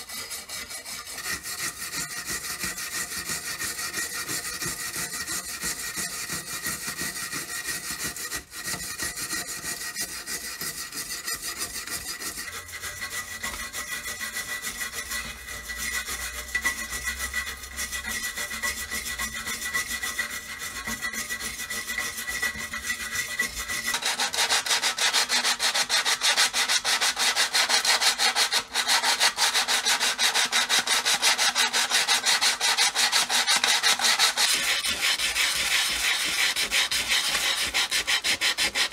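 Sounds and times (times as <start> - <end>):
abrasive tool scraping metal: 0.0 - 38.9.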